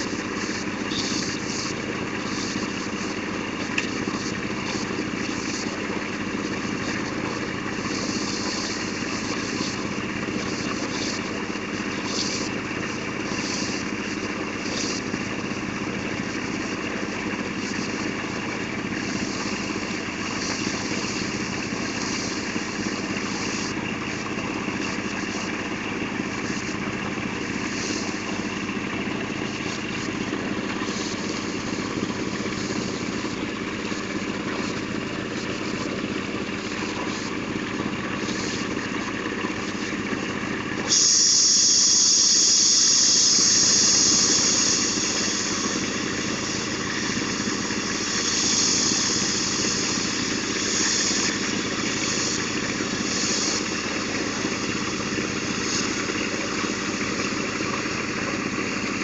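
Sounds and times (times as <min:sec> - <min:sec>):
drilling rig engine humming: 0:00.0 - 0:59.0
loud hiss: 0:00.0 - 0:59.0
water and mud spraying: 0:00.0 - 0:59.0.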